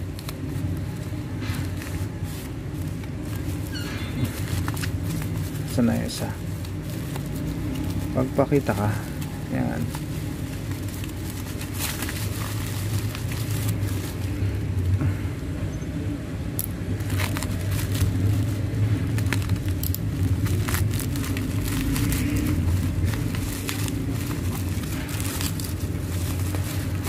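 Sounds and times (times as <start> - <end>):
bubble wrap crinkling: 0.0 - 15.0, 16.5 - 27.0
low background hum: 0.0 - 27.0.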